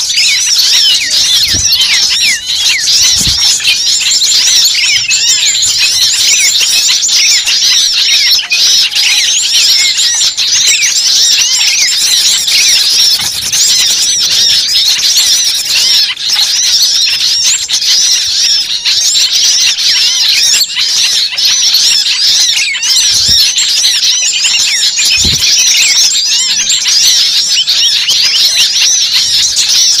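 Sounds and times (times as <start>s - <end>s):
many small birds chirping: 0.0s - 30.0s.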